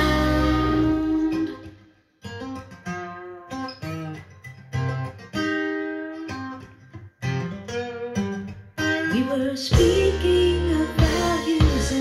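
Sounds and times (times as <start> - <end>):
plucked guitar notes: 0.0 - 12.0.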